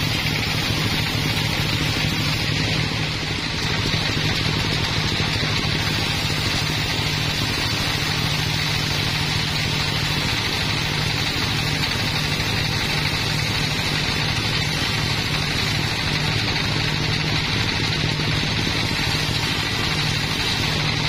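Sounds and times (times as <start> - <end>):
band saw motor hum: 0.0 - 21.0
saw blade hissing through wood: 0.0 - 21.0.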